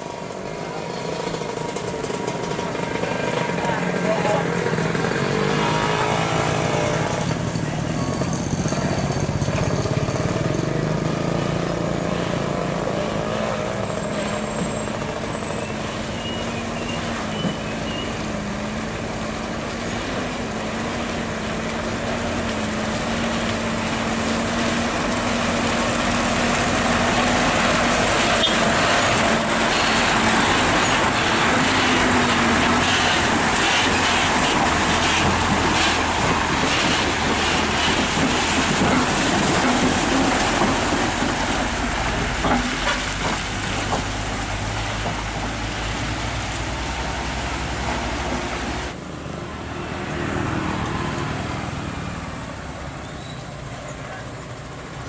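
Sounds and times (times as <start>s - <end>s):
road noise of approaching vehicle: 0.0s - 55.0s
truck engine droning: 0.0s - 55.0s.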